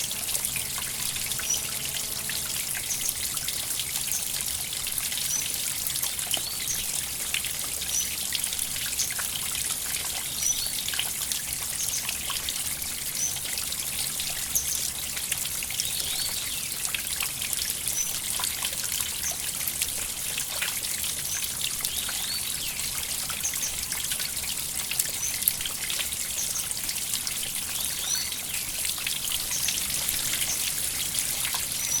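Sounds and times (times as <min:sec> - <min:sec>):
river water trickling: 0:00.0 - 0:32.0
small bright water plinks: 0:00.0 - 0:32.0.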